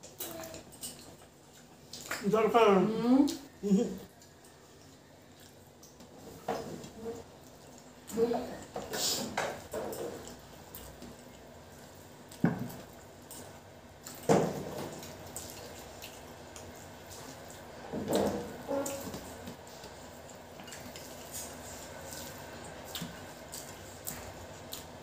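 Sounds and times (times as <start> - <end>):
wet squishing of food mixed by hand: 0.0 - 25.0.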